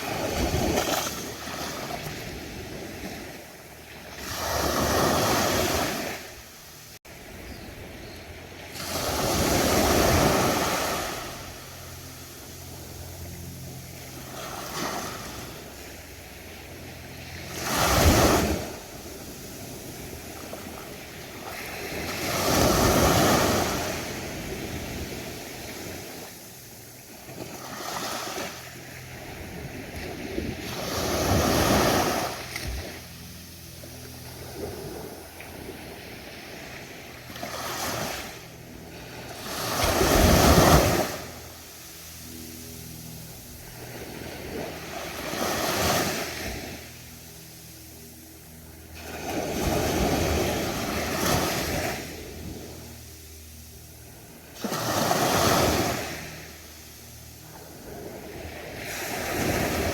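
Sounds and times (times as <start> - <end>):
surf waves breaking: 0.0 - 47.7, 48.7 - 59.9.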